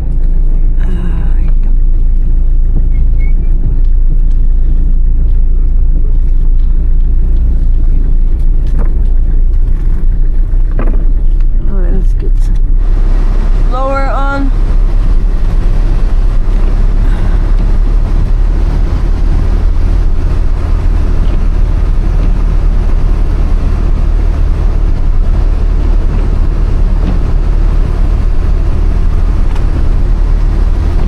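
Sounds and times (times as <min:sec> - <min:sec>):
car engine drone inside cabin: 0:00.0 - 0:31.0
tyre road noise: 0:00.0 - 0:31.0.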